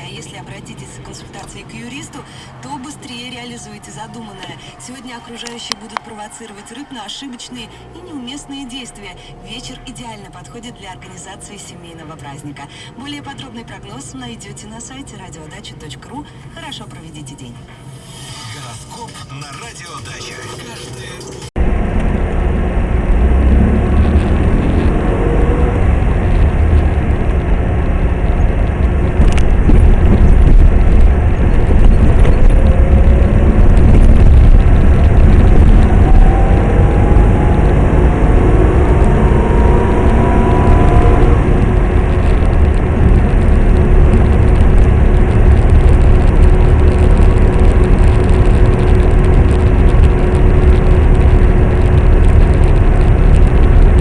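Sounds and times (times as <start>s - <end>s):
car engine accelerating: 0.0s - 15.6s, 20.1s - 54.0s
road noise inside car: 0.0s - 54.0s.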